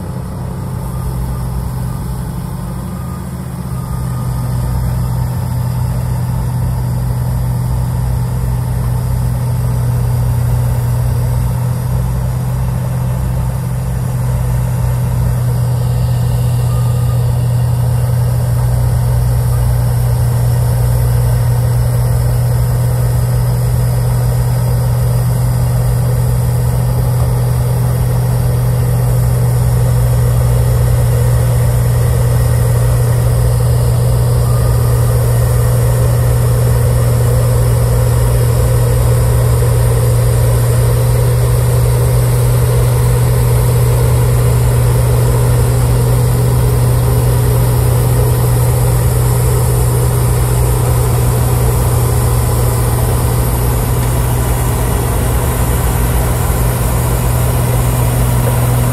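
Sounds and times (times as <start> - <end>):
diesel engine running under load: 0.0 - 58.9
snow blower rushing: 0.0 - 58.9.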